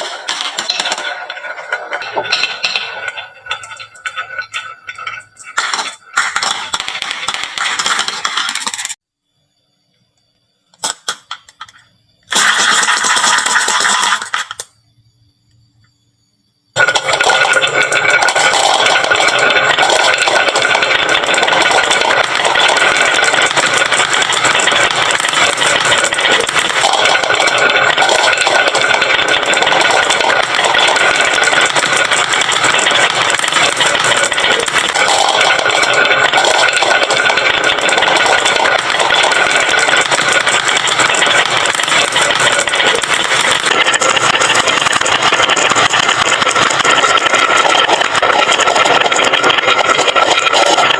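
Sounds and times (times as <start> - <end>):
marbles rattling down wooden run: 0.0 - 9.0, 12.4 - 14.6, 16.8 - 50.9.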